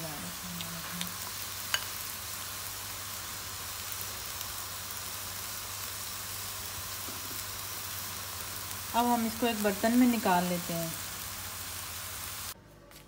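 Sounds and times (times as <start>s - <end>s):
food sizzling in oil: 0.0s - 12.6s.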